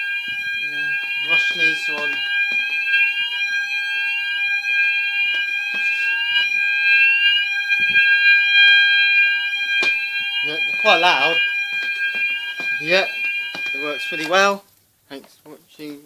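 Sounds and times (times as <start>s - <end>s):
fire alarm rising sweep: 0.0s - 14.6s
fire alarm steady high tone: 0.0s - 14.6s.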